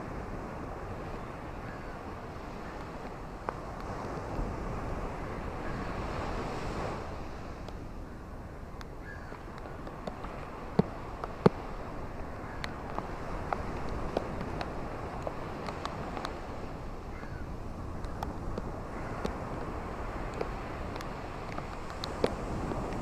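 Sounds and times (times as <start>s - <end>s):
ocean waves washing on shore: 0.0s - 23.0s.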